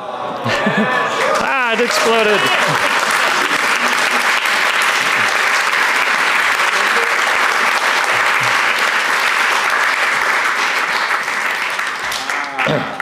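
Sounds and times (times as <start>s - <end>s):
large audience applauding: 0.7s - 13.0s.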